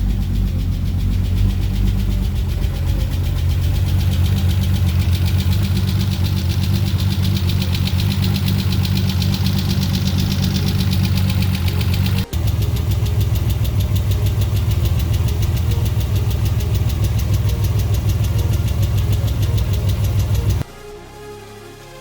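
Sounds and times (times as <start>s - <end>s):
car engine idling: 0.0s - 20.6s
fast even ticking: 0.0s - 20.6s.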